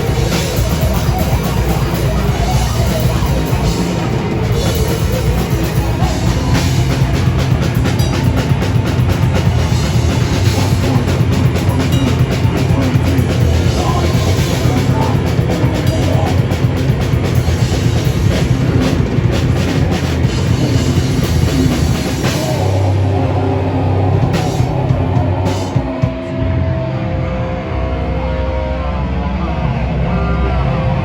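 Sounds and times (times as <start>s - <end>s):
fast drumming and cymbals: 0.0s - 26.2s
rock band playing live: 0.0s - 31.0s
sustained guitar chord: 0.0s - 31.0s.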